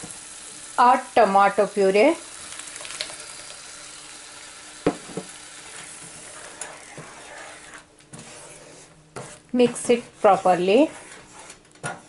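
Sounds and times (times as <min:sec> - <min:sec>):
paste sizzling in a frying pan: 0:00.0 - 0:10.9.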